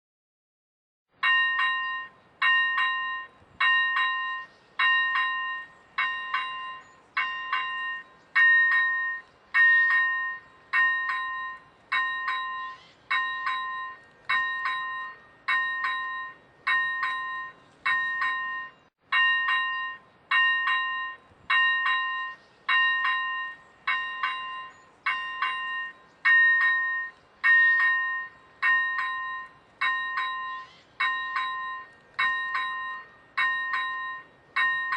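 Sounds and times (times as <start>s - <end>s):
level crossing warning bell: 1.1s - 34.9s.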